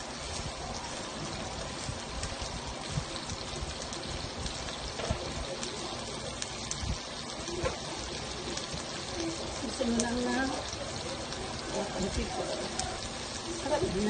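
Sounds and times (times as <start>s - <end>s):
shrimp sizzling in a frying pan: 0.0s - 14.0s
small frying pops: 0.0s - 14.0s.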